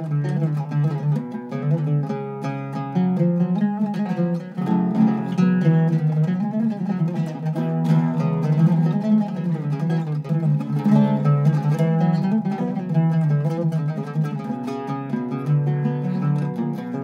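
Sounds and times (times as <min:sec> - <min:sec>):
oud plucked with a plectrum: 0:00.0 - 0:17.0.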